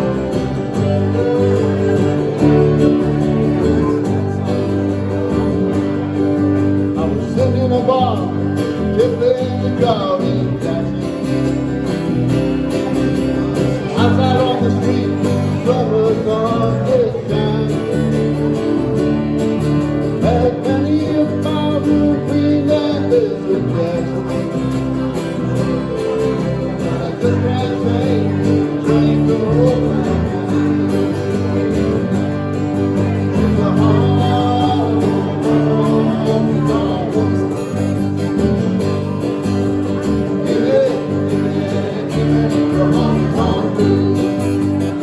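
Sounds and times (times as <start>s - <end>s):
country band playing live: 0.0s - 45.0s
sliding lead guitar line: 0.0s - 45.0s.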